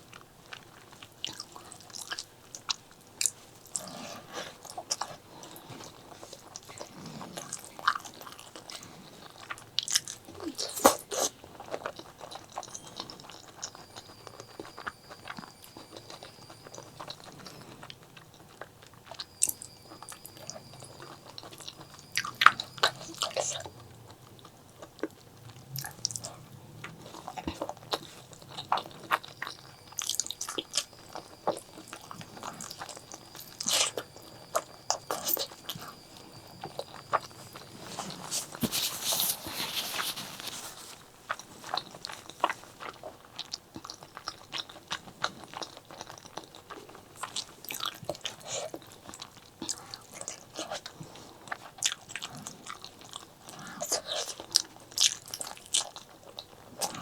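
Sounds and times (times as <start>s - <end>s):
chewing and biting: 0.0s - 57.0s.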